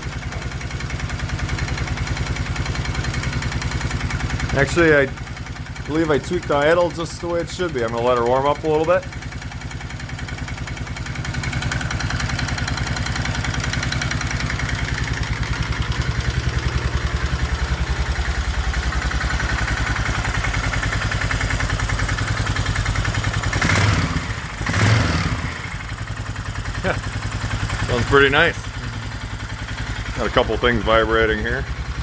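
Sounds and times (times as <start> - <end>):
atv engine idling: 0.0 - 32.0.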